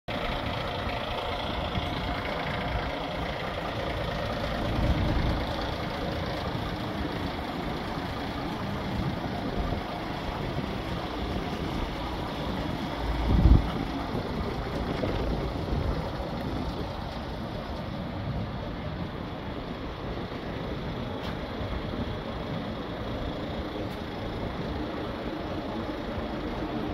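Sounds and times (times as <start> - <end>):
diesel truck engine idling: 0.1 - 26.9.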